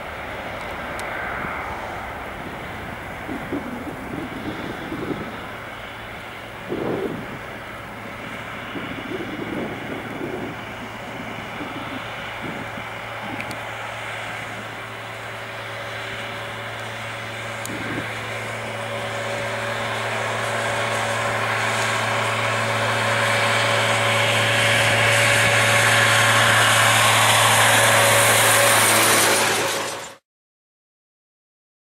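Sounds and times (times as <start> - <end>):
jet engines roaring at takeoff: 0.0 - 30.2.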